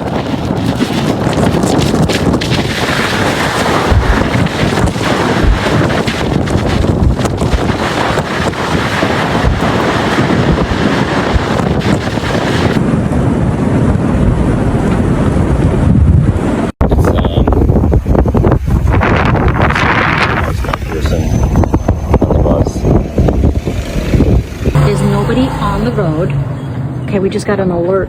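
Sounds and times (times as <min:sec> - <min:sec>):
strong wind on microphone: 0:00.0 - 0:28.0.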